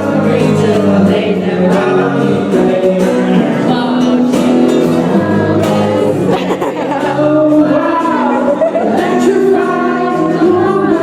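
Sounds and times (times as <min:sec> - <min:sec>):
pop band singing live: 0:00.0 - 0:11.0.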